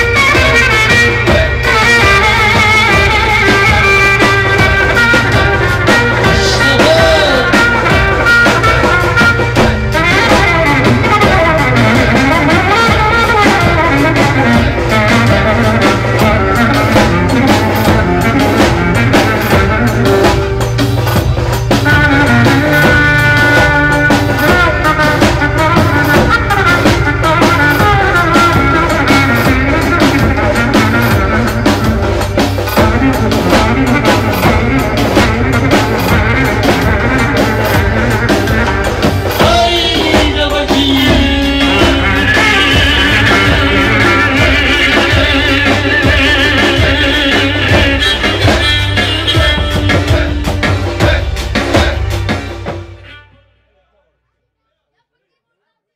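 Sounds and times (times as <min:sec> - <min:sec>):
trumpet melody: 0:00.0 - 0:53.8
snare drum beat: 0:03.0 - 0:19.9, 0:22.3 - 0:52.5.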